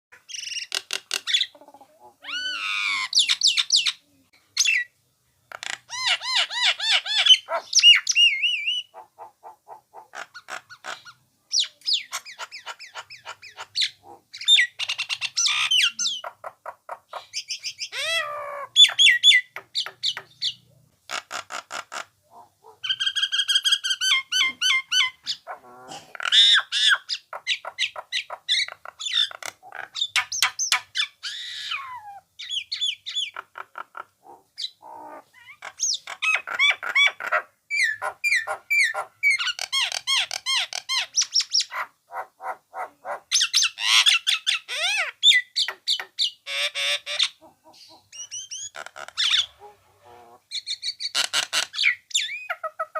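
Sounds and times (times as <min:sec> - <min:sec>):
myna singing and calling: 0:00.2 - 0:04.9, 0:05.5 - 0:52.9.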